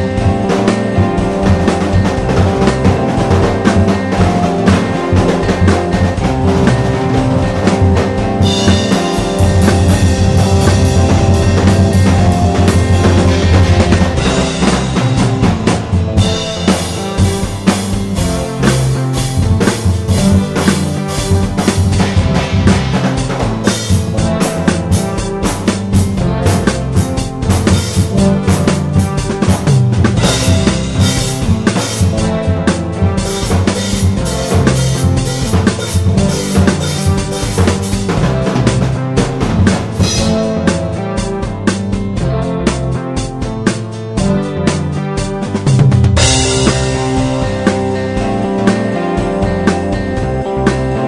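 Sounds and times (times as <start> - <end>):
drum kit beat: 0.0 - 51.0
held bass line: 0.0 - 51.0
instrumental music with chords: 0.0 - 51.0.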